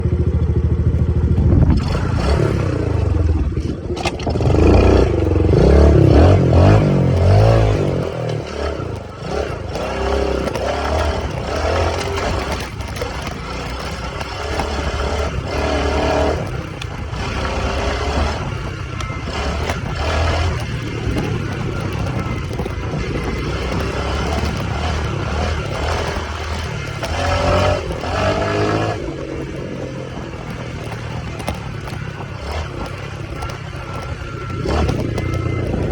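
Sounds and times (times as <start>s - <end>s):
dirt bike engine revving: 0.4s - 35.9s.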